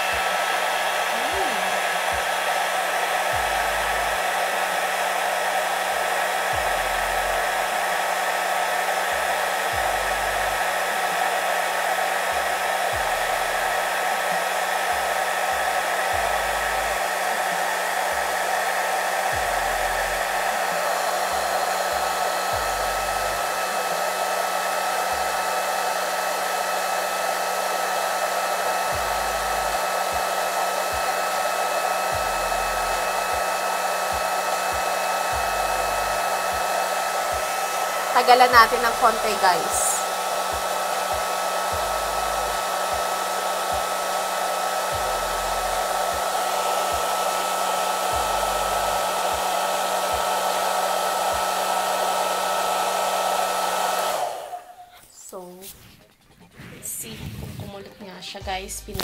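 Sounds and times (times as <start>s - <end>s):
hair dryer blowing: 0.0s - 55.4s.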